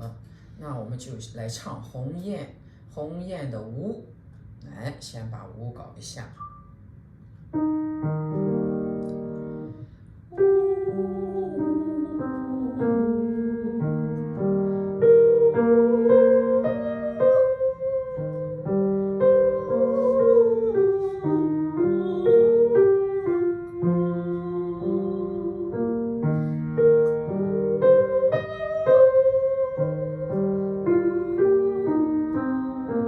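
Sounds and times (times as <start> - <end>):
piano chords: 6.4 - 33.0.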